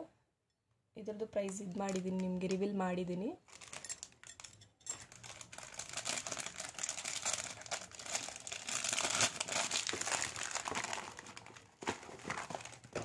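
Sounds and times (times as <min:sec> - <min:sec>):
packaging crinkling and rustling: 0:01.4 - 0:02.6, 0:03.4 - 0:13.0.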